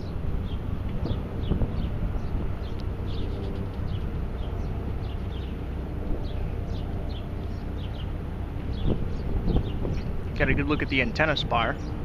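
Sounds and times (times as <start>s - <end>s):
city traffic rumble: 0.0s - 12.0s
small birds chirping: 0.0s - 12.0s
wind: 0.0s - 12.0s.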